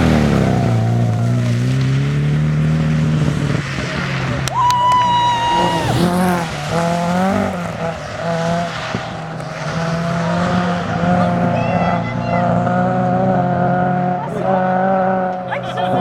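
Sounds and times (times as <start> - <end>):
rally car engine: 0.0 - 16.0.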